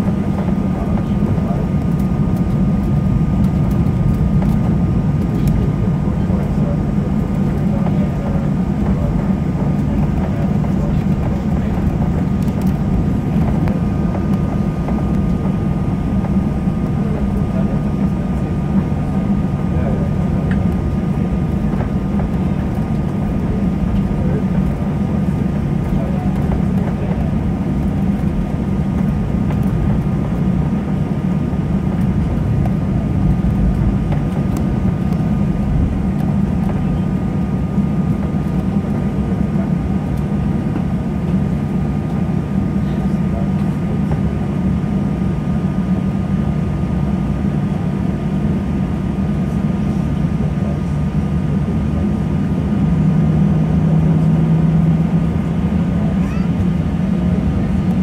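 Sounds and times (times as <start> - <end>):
jet engine hum: 0.0 - 58.0.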